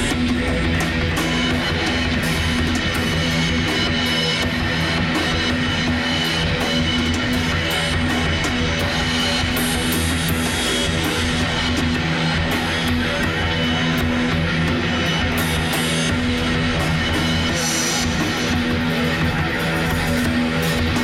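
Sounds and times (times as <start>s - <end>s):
drum and cymbal hits: 0.0s - 21.0s
electric guitar chords: 0.0s - 21.0s.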